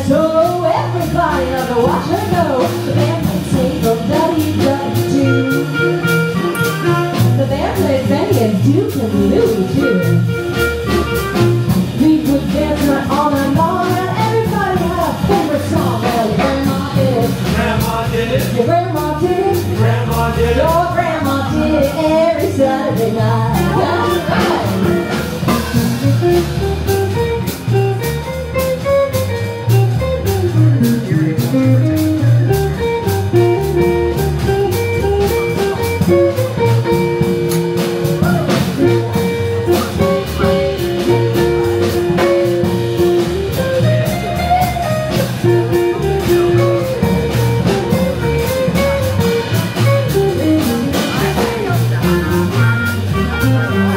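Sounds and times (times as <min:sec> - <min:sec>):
picked guitar notes: 0:00.0 - 0:53.9
swing band playing: 0:00.0 - 0:53.9
clarinet melody: 0:00.1 - 0:17.2, 0:20.6 - 0:53.9.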